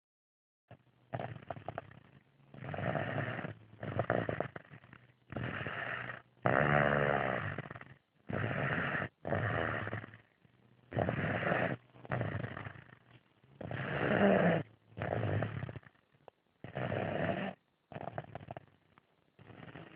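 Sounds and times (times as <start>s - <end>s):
child snoring: 1.1s - 10.2s, 10.9s - 13.0s, 13.6s - 16.0s, 16.6s - 18.6s, 19.4s - 19.9s.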